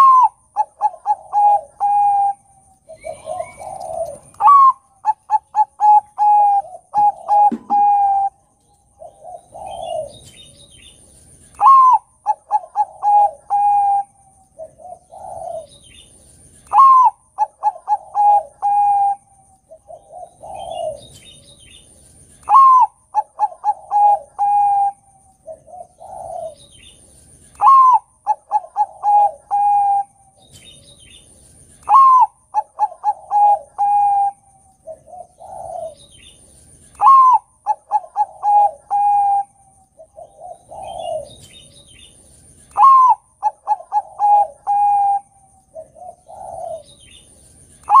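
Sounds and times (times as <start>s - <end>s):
dove cooing: 0.0s - 31.2s, 31.8s - 48.0s.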